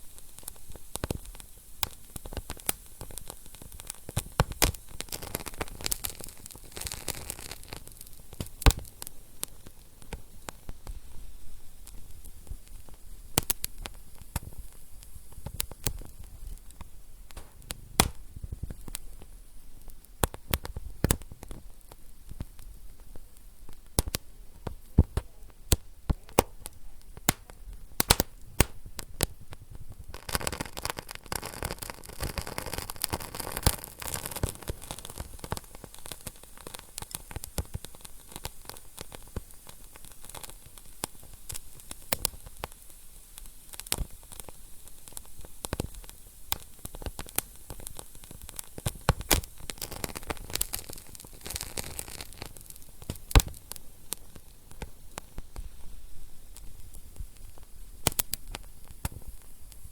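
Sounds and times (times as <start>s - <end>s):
steady hiss: 0.0s - 59.9s
wood fire crackling and popping: 0.0s - 59.9s.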